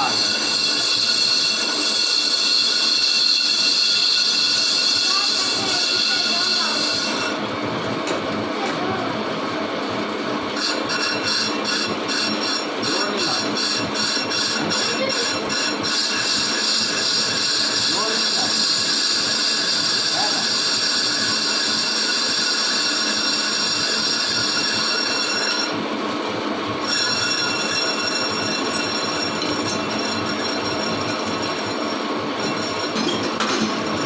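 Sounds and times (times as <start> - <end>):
lathe cutting metal squeal: 0.0 - 7.4, 10.5 - 34.0.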